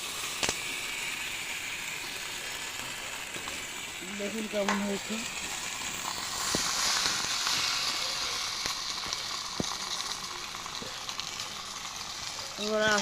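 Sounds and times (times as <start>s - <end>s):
food sizzling in a hot pan: 0.0s - 13.0s.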